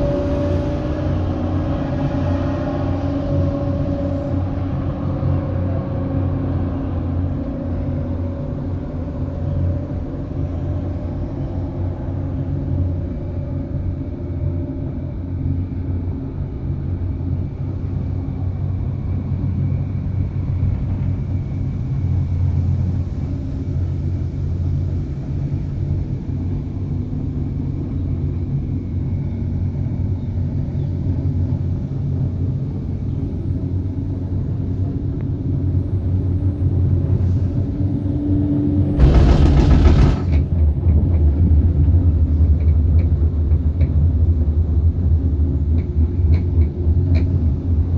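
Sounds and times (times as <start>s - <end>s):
cable car gondola rumbling: 0.0s - 47.9s.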